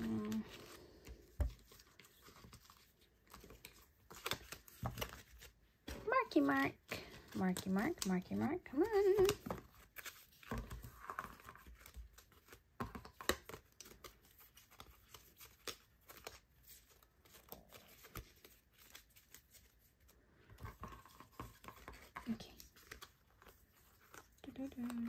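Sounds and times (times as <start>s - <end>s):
cards shuffling by hand: 0.0s - 25.0s.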